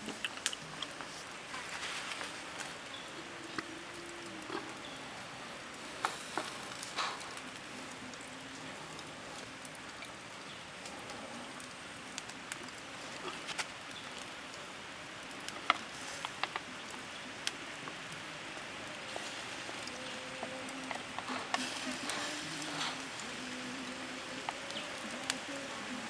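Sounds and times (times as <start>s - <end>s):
fire popping and crackling: 0.0s - 26.0s
meat sizzling on grill: 0.0s - 26.0s.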